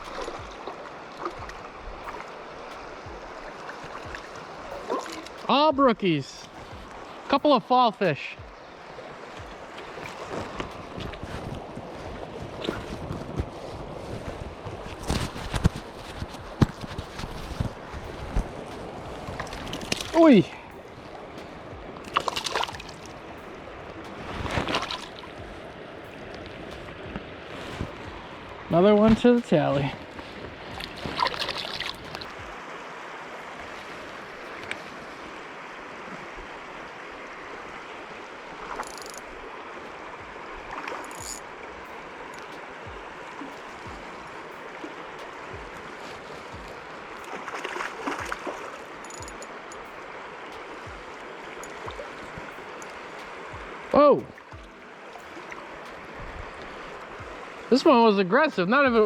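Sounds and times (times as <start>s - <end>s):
river water running: 0.0s - 59.0s.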